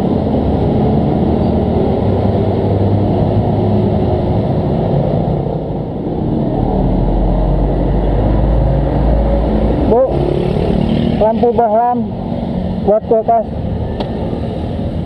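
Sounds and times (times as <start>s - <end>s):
low rumble of motor traffic: 0.0s - 15.0s.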